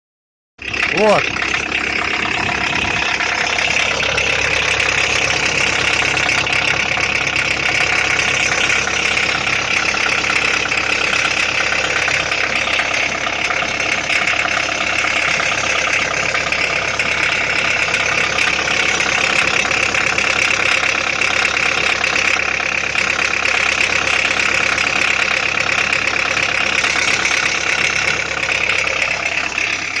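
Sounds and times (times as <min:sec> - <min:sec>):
car engine idling with knock: 0:00.6 - 0:30.0.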